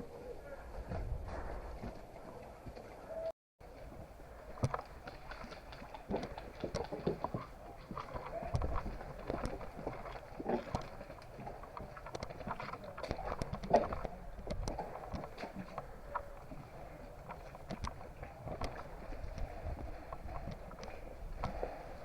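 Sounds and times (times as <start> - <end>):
footsteps: 3.7 - 21.7.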